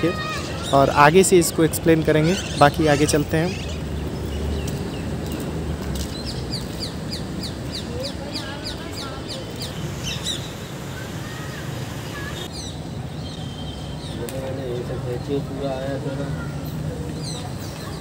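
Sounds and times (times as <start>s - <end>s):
murmur of distant voices: 0.0s - 5.0s, 6.2s - 18.0s
birds chirping: 0.0s - 18.0s.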